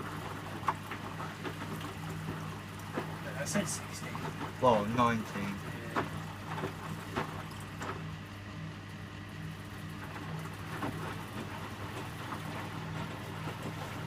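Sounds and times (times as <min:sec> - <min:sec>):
washing machine motor hum: 0:00.0 - 0:14.0
water sloshing in drum: 0:00.0 - 0:14.0.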